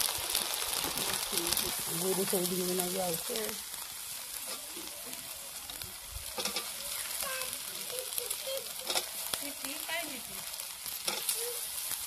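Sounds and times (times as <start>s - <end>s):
curry sizzling in an iron pan: 0.0s - 12.0s.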